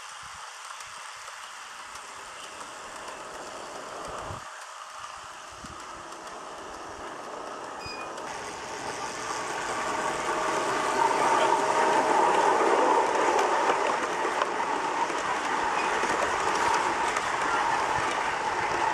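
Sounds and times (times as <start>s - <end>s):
model train rolling hum: 0.0s - 18.9s.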